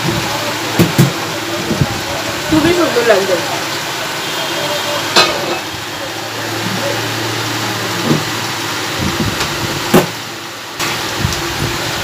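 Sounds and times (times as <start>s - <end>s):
electric fan running: 0.0s - 12.0s.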